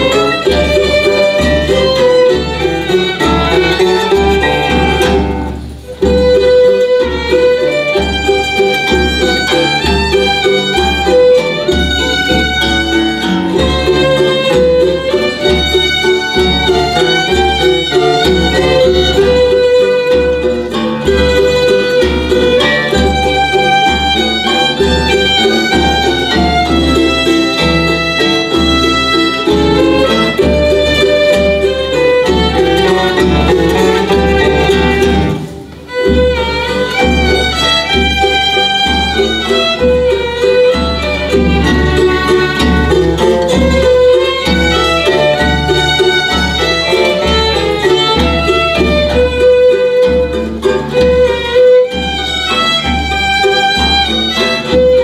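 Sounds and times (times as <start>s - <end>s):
strummed guitars: 0.0s - 55.0s
violins playing melody: 0.0s - 55.0s.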